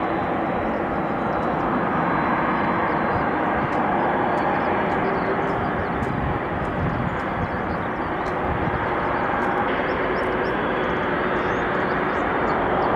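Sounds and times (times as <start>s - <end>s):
jet engines at takeoff thrust: 0.0s - 12.9s.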